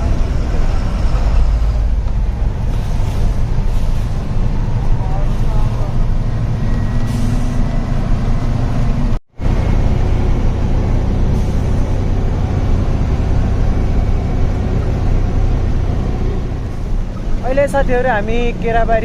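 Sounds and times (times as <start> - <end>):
road noise: 0.0 - 19.0
truck diesel engine running: 0.0 - 19.0.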